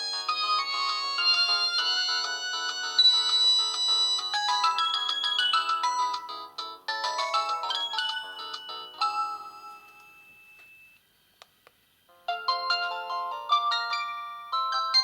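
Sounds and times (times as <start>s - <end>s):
polyphonic phone ringtone: 0.0s - 11.0s, 12.3s - 15.0s.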